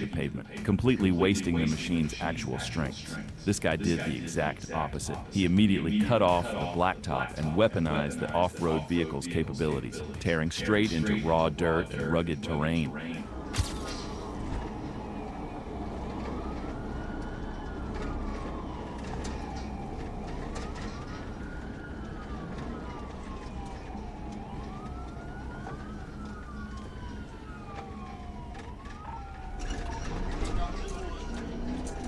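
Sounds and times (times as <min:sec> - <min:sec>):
police siren wailing: 0:00.0 - 0:32.0.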